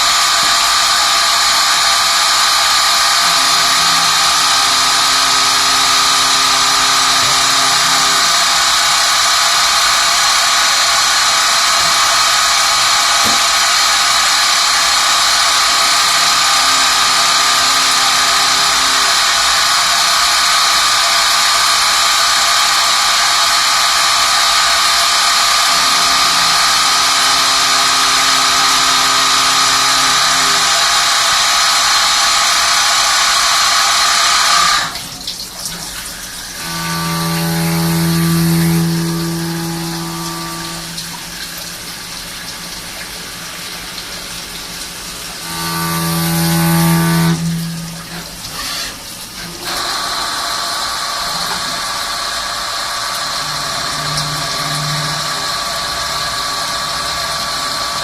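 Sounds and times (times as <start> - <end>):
low machine hum: 0.0 - 34.0, 34.6 - 58.0
lathe high hiss and whine: 0.0 - 35.0, 36.3 - 43.8, 45.0 - 58.0.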